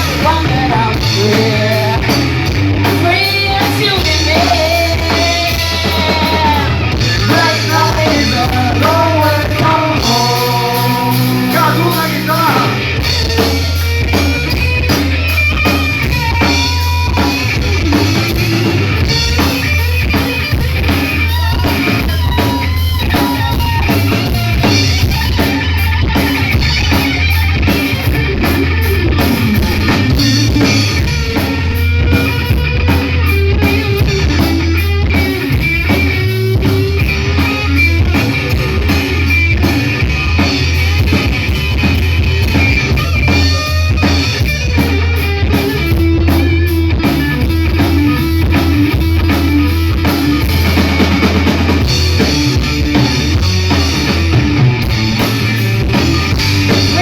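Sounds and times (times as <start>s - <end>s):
bass guitar: 0.0s - 57.0s
driving drum beat: 0.0s - 57.0s
electric guitar lead: 0.0s - 57.0s.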